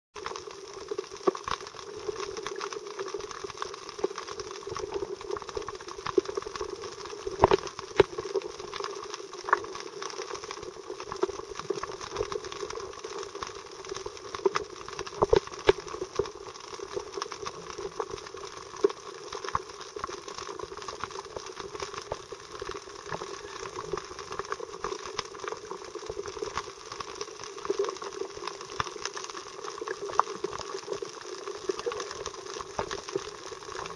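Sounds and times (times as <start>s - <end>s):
small clicks and crackles: 0.2s - 33.9s
muffled underwater rushing: 0.3s - 33.9s.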